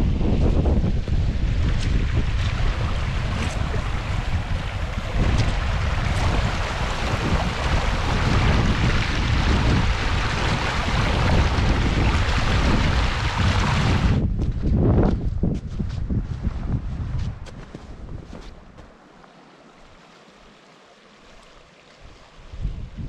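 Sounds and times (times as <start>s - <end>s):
strong wind buffeting microphone: 0.0s - 18.9s, 22.0s - 23.0s.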